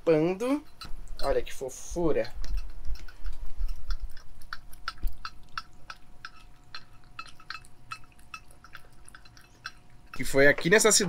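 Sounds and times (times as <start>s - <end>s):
cats chewing and licking wet food: 0.5s - 11.0s.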